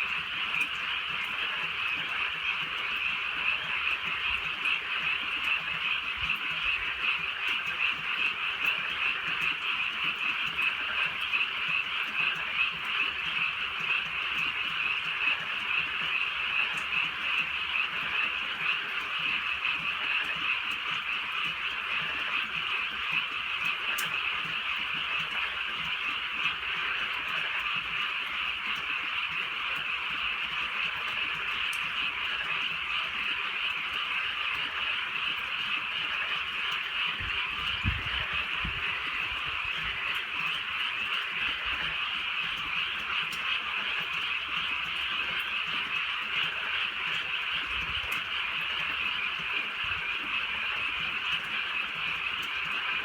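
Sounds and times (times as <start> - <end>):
chorus of frogs calling: 0.0 - 53.0.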